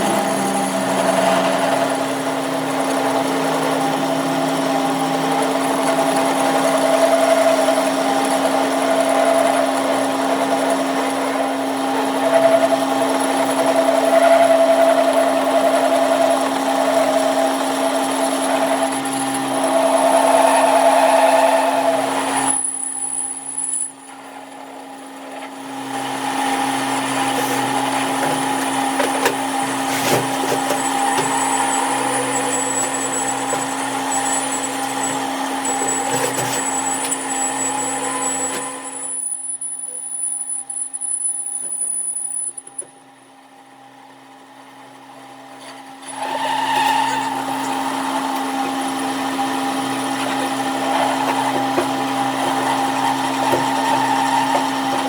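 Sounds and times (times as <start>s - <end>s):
power tool humming and whining: 0.0s - 39.2s, 46.1s - 55.0s.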